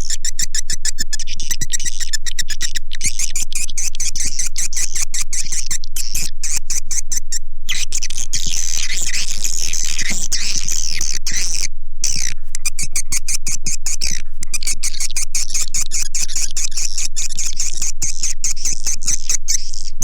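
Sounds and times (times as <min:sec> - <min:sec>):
high twittering chirps: 0:00.0 - 0:20.0.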